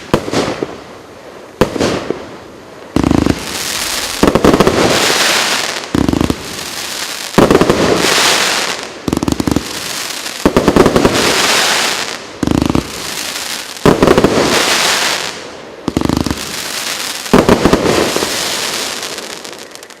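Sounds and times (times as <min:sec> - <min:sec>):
firework burst with crackling: 0:02.9 - 0:20.0.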